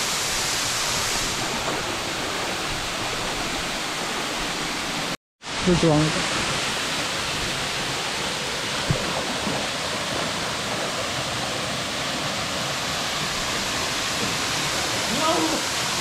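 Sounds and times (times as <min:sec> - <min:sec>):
rushing waterfall: 0:00.0 - 0:16.0.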